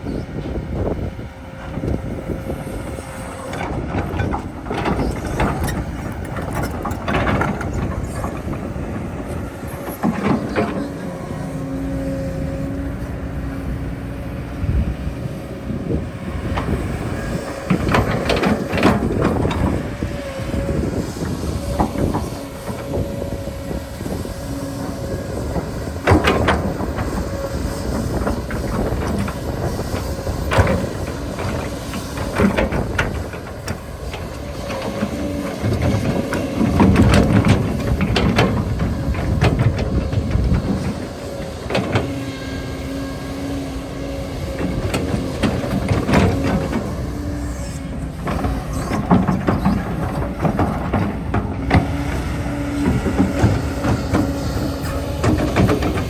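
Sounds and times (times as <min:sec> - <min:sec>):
excavator running with whine: 0:00.0 - 0:56.0.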